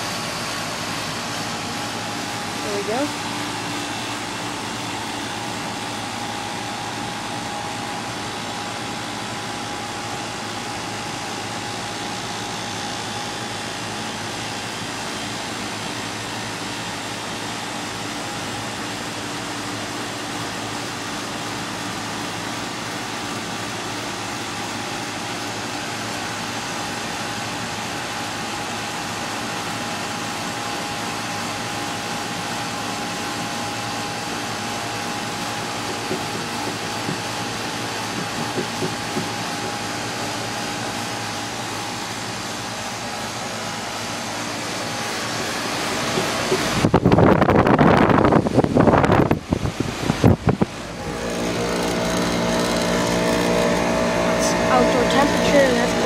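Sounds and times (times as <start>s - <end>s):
air conditioner fan rush: 0.0s - 56.0s.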